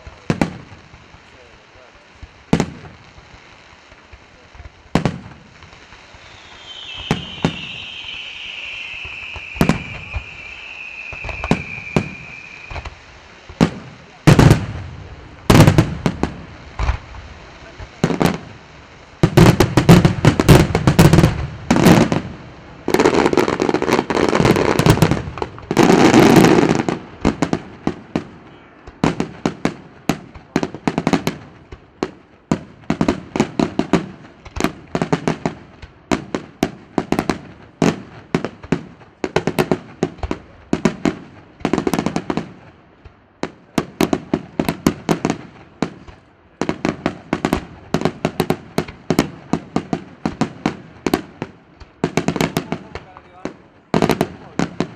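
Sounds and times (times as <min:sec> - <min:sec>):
fireworks bangs: 0:00.0 - 0:54.9
sharp firework cracks: 0:00.0 - 0:54.9.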